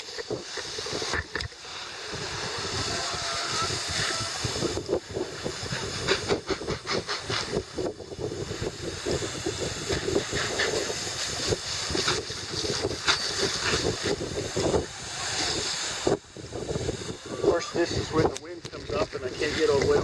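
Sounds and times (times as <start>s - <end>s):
garden hose spraying water: 0.0s - 20.0s
wind gusting on microphone: 0.0s - 20.0s.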